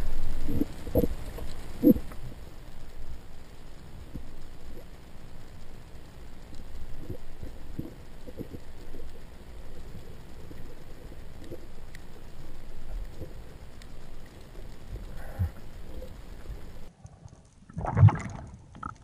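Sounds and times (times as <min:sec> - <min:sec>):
faint crackles: 0:00.0 - 0:19.0
underwater rush of water: 0:00.0 - 0:19.0.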